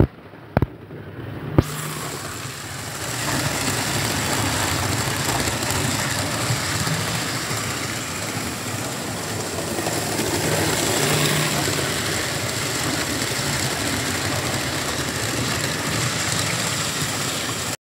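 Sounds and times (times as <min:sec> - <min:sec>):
wheels rumbling on rail: 0:00.0 - 0:17.8
model train electric motor: 0:01.6 - 0:17.8.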